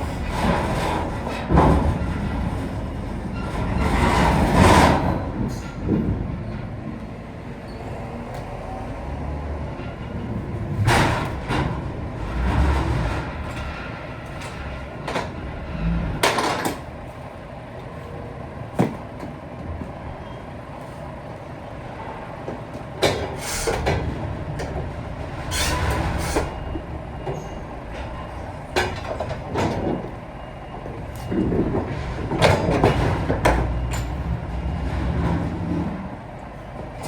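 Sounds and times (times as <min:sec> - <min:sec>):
clunks and rattles: 0:00.0 - 0:08.5, 0:09.1 - 0:17.1, 0:18.7 - 0:20.4, 0:22.4 - 0:37.0
heavy truck engine rumbling: 0:00.0 - 0:37.0.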